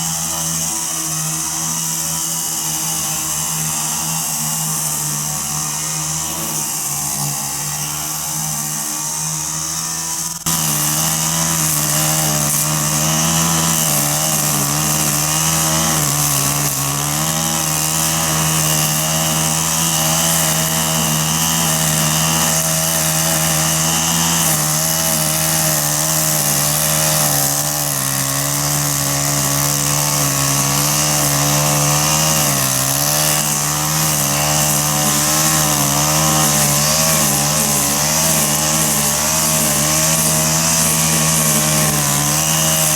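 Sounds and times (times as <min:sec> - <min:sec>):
string trimmer engine cutting grass: 0:00.0 - 0:42.9.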